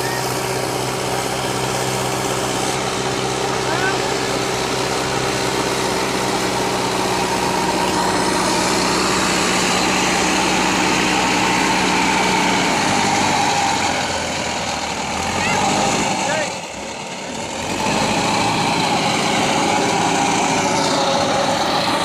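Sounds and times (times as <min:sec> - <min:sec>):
backhoe diesel engine running: 0:00.0 - 0:22.0.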